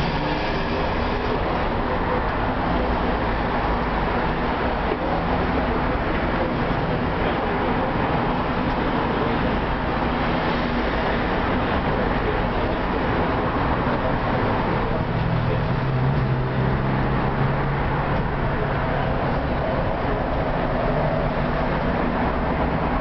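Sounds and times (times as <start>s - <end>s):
tram wheels on rails: 0.0s - 23.0s.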